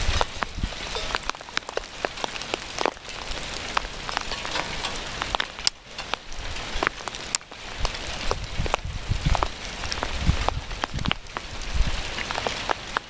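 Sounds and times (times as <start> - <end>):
hailstones clicking: 0.0 - 13.0
rain hiss: 0.0 - 13.0.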